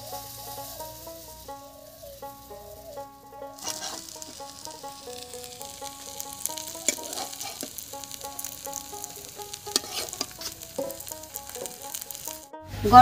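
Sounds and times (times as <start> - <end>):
background melody: 0.0 - 13.0
slices frying in oil: 0.0 - 13.0.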